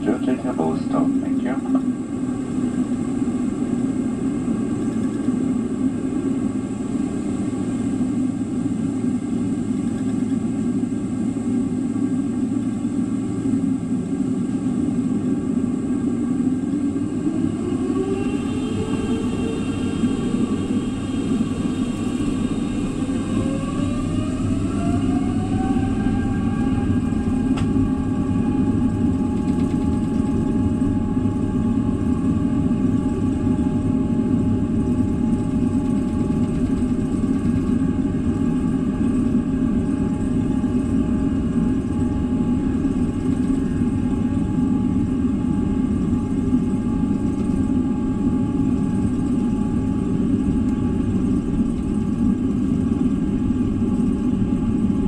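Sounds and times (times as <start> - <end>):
jet engines roaring and whining: 0.0 - 55.0.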